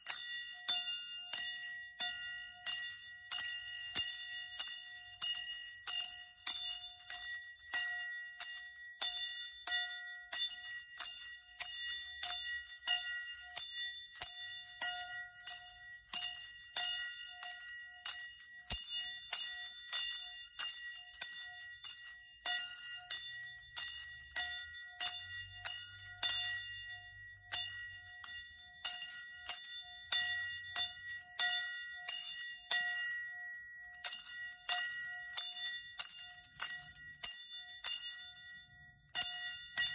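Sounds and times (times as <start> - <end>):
small bells ringing: 0.0 - 39.9.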